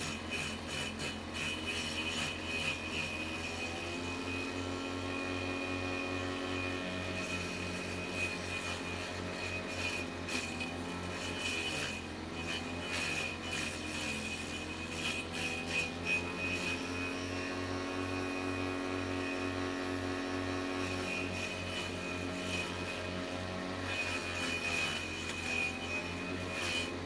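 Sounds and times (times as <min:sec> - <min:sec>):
electric motor humming: 0:00.0 - 0:27.0.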